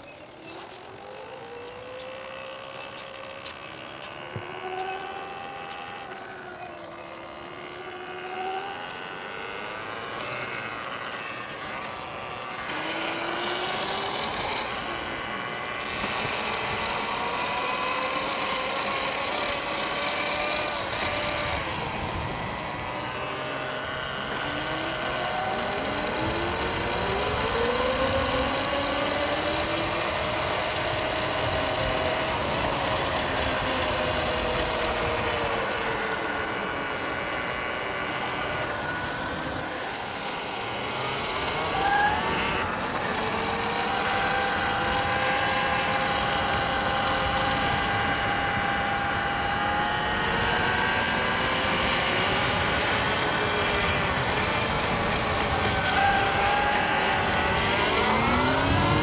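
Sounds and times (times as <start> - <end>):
electric dirt bike motor whining: 0.0 - 59.0
wind: 0.0 - 59.0.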